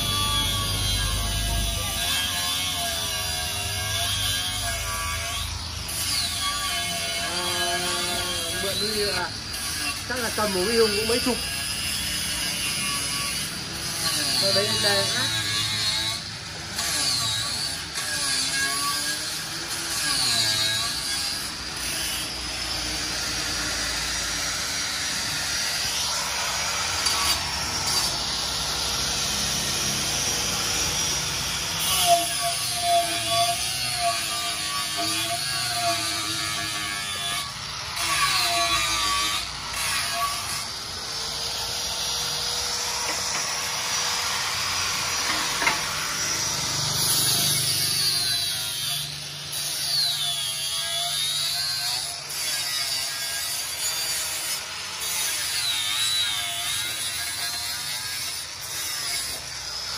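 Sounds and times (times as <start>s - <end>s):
angle grinder sanding metal: 0.0s - 59.9s.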